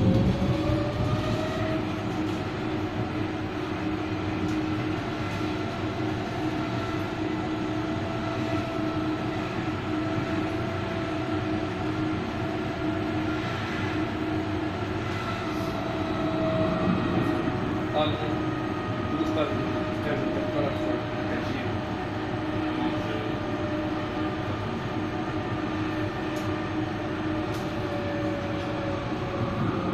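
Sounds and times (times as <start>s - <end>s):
steady electric whine: 0.0s - 29.9s
tram wheels rumbling on rails: 0.0s - 29.9s.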